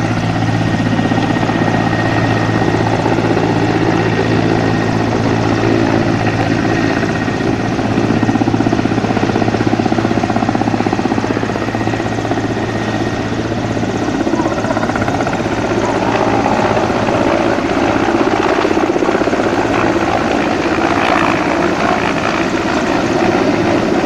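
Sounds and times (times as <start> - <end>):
aircraft propeller engine drone: 0.0 - 24.0.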